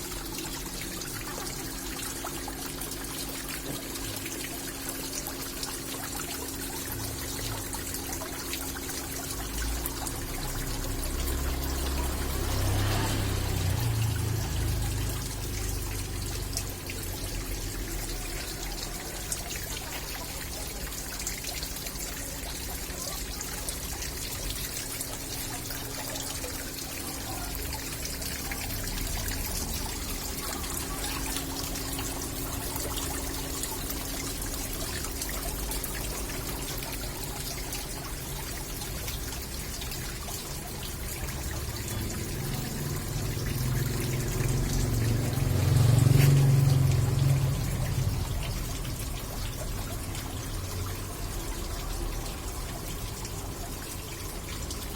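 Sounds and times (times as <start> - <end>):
water pouring and trickling: 0.0 - 54.9.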